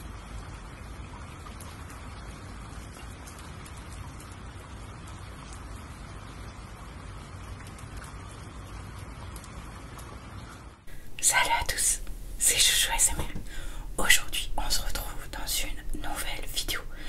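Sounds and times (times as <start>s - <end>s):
raindrops ticking: 0.0s - 17.0s
steady rain: 0.0s - 17.0s.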